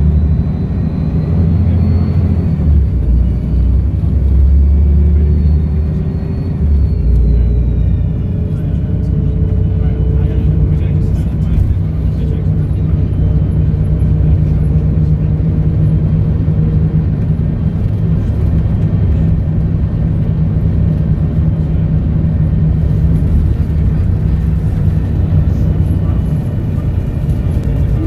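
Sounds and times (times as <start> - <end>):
bus diesel engine humming: 0.0 - 28.0.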